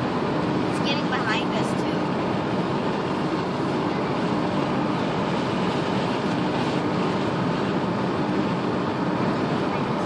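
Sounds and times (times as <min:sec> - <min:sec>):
road and engine noise in car: 0:00.0 - 0:10.0.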